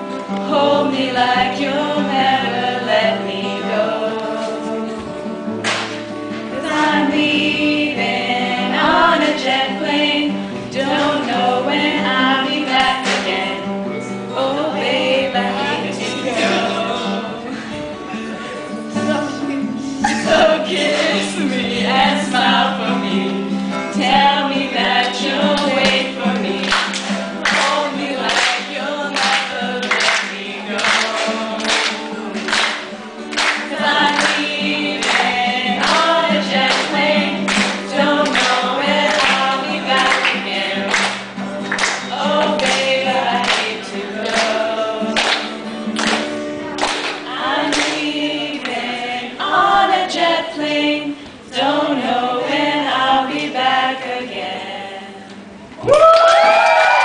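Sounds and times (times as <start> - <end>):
group singing in unison: 0.0 - 55.6.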